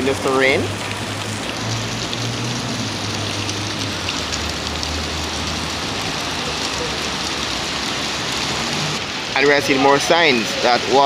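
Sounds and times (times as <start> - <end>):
steady rain: 0.0 - 11.0
water pouring and splashing: 0.0 - 11.0.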